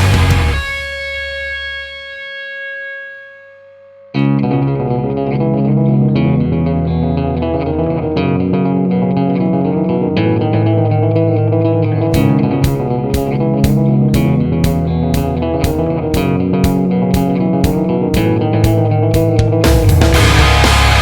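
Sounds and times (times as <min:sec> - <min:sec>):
rock music with electric guitar: 0:00.0 - 0:03.2, 0:04.2 - 0:21.0.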